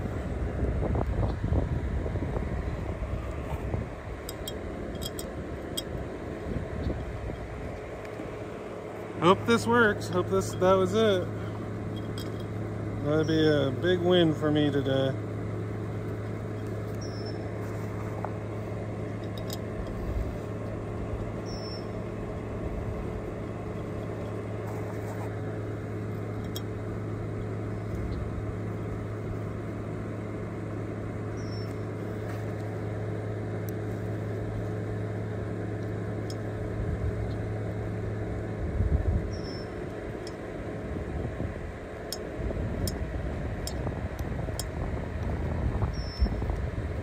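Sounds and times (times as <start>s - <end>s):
electric fan humming: 0.0s - 47.0s.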